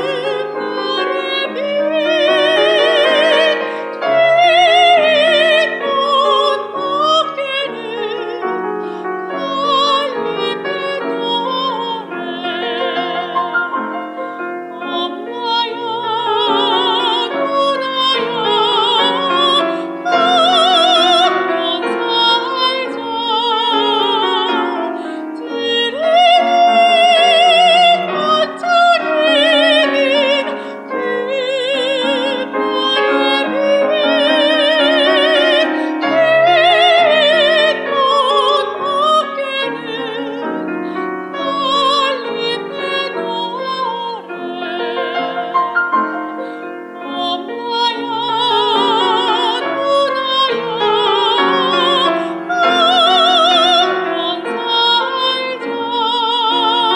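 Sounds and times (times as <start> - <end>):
piano accompaniment: 0.0 - 56.9
soprano singing with vibrato: 0.0 - 56.9.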